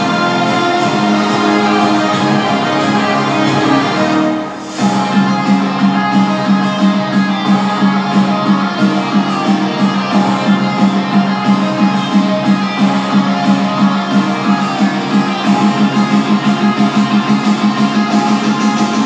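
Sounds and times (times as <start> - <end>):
strummed guitar music on small speaker: 0.0 - 19.0.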